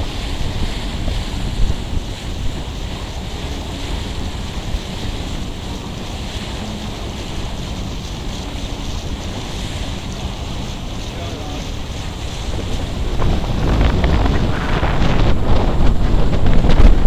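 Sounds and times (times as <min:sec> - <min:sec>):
rush of sea water: 0:00.0 - 0:17.0
wind buffeting the microphone: 0:00.0 - 0:17.0.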